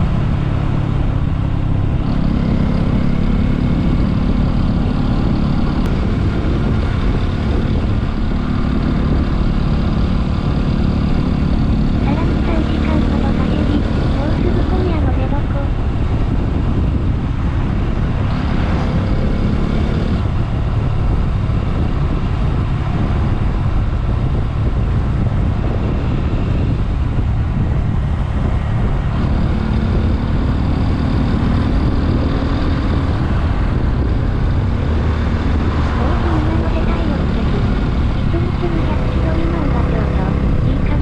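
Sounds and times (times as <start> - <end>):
motorcycle engine hum: 0.0 - 41.0
wind rush on microphone: 0.0 - 41.0.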